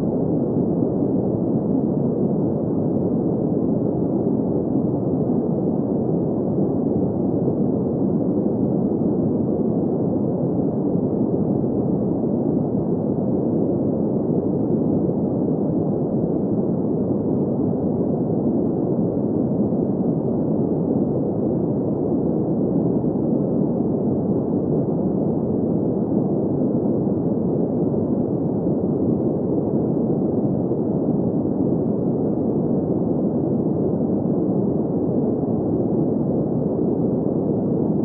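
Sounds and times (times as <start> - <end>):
muffled hiss-rumble sleep noise: 0.0 - 38.0.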